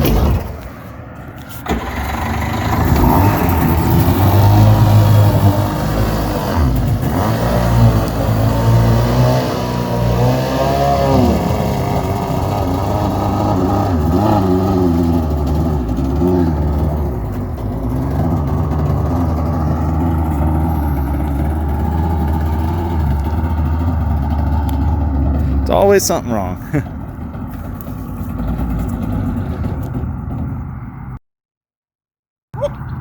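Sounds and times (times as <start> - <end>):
boat engine revving: 1.6 - 30.7.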